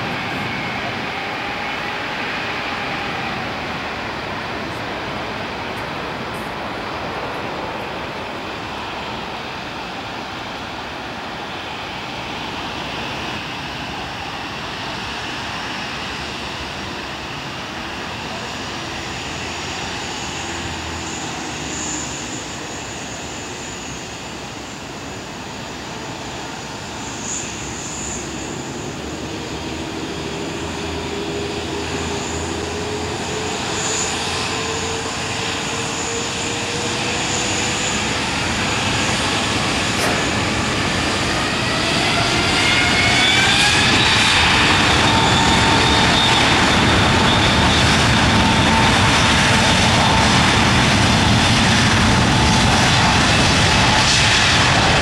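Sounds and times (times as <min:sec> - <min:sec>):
jet engines running: 0:00.0 - 0:55.0
jet engines spooling up: 0:00.0 - 0:55.0.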